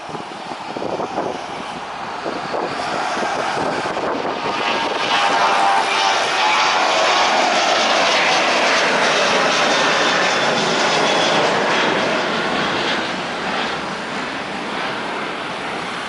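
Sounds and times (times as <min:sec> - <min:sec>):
jet engines passing by: 0:00.0 - 0:16.0.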